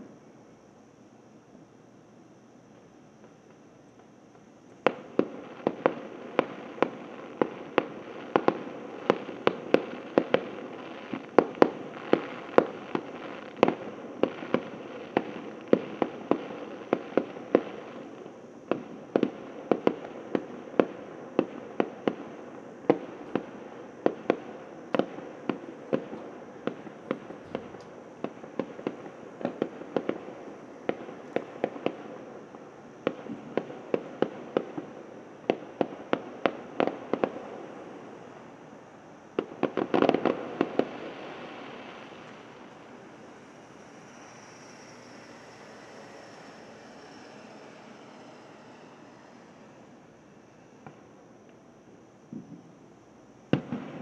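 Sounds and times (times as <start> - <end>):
fireworks banging: 4.8 - 38.8, 39.4 - 51.3, 53.5 - 54.0.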